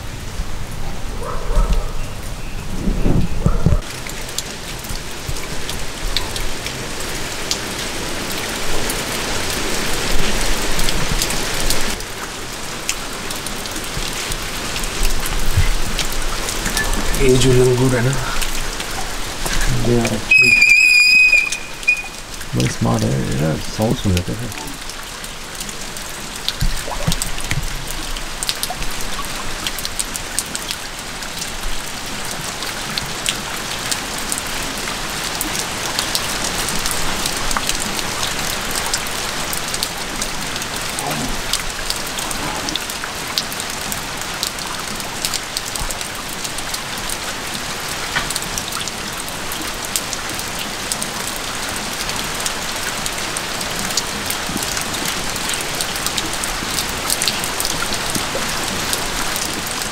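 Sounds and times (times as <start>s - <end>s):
steady rain hiss: 0.0s - 1.2s, 2.0s - 59.9s.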